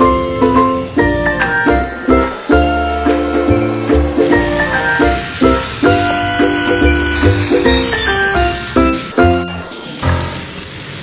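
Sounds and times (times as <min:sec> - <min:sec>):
melody of short repeated notes: 0:00.0 - 0:10.4.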